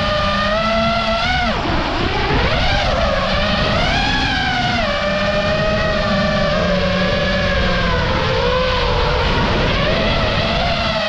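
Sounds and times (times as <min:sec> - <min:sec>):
drone motors whining: 0:00.0 - 0:11.0
wind noise: 0:00.0 - 0:11.0.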